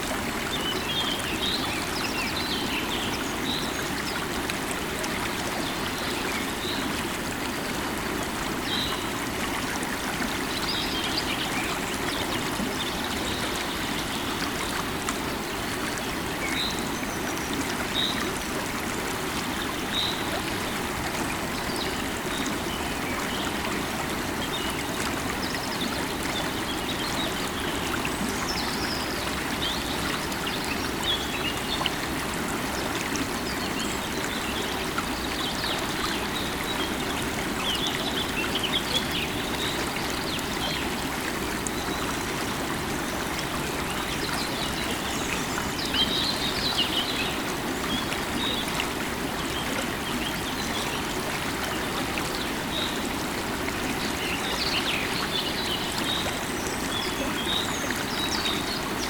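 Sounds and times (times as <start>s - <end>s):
river water running: 0.0s - 59.0s.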